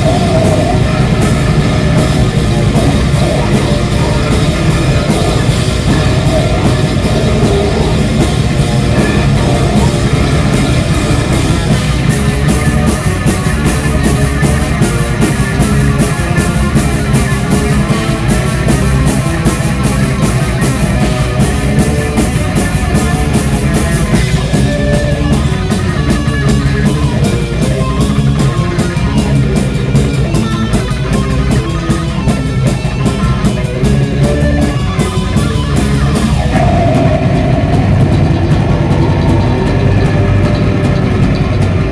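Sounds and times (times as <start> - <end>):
fast drum and cymbal hits: 0.0 - 41.9
heavy metal band playing live: 0.0 - 41.9.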